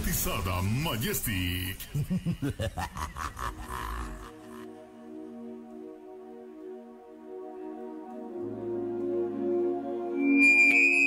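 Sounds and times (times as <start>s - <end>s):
ambient music with held chords: 2.0s - 11.0s.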